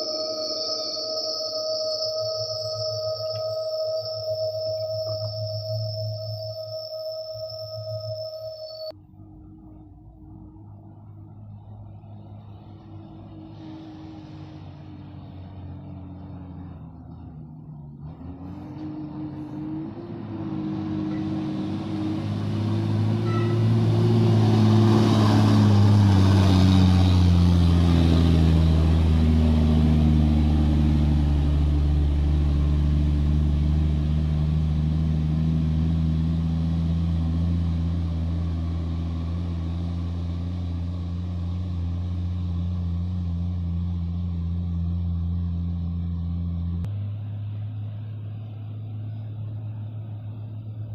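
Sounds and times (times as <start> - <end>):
dump truck diesel engine labouring: 0.0 - 50.9.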